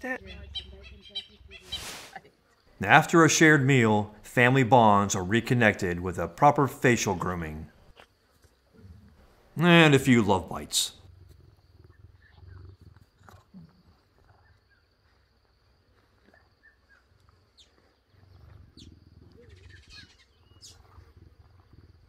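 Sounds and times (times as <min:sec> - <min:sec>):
cheetahs purring: 0:00.0 - 0:22.0.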